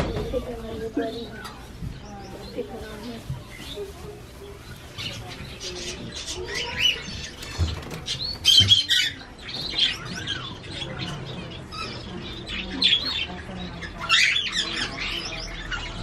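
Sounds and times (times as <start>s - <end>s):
parrots squawking and chirping: 0.0s - 16.0s.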